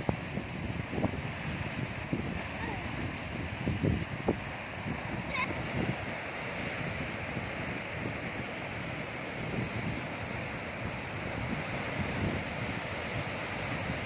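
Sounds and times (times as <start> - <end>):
sea waves washing on shore: 0.0 - 14.0
wind buffeting microphone: 0.0 - 14.0.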